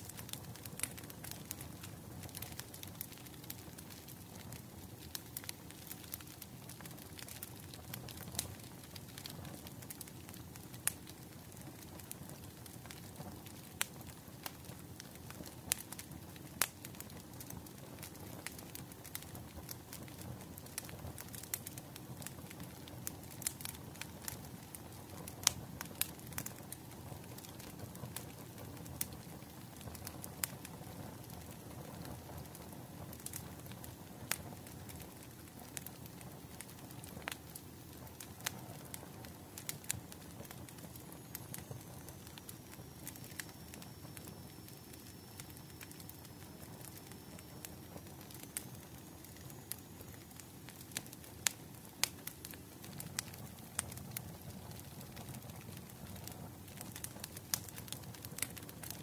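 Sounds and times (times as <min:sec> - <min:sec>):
bonfire pops and snaps: 0:00.0 - 0:59.0
low rumble of burning wood: 0:00.0 - 0:59.0.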